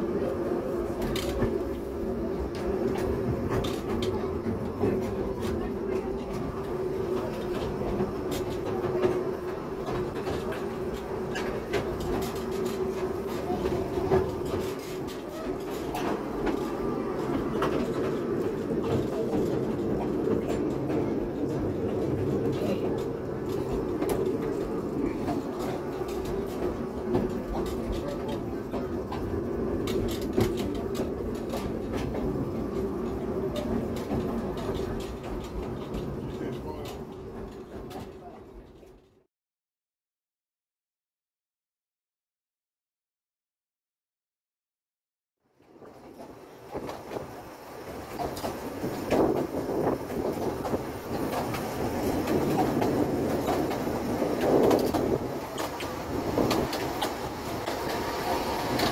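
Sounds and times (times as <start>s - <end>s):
wheels clicking over rail joints: 0.0s - 39.2s, 45.6s - 58.9s
railway carriage running noise: 0.0s - 39.3s, 45.5s - 58.9s.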